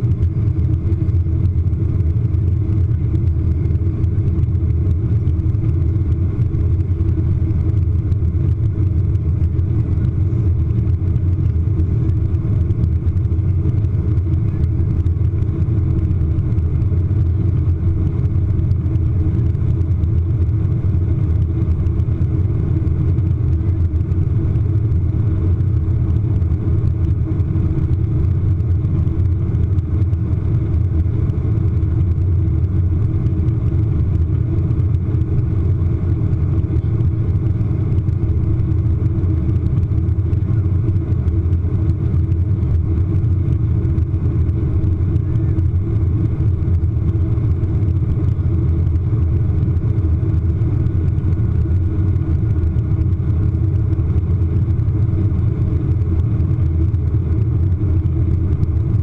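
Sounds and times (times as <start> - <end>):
jet engines droning in cabin: 0.0 - 59.0.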